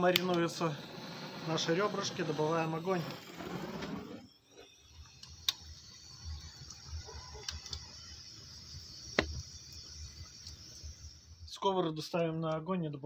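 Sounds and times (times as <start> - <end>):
firewood crackling with pops: 0.0 - 11.5
low fluttering fire rumble: 0.0 - 12.1.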